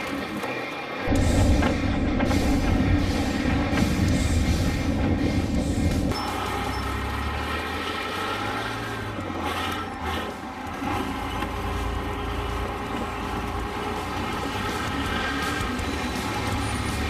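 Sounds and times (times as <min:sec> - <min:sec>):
tank engine running: 0:00.0 - 0:17.0.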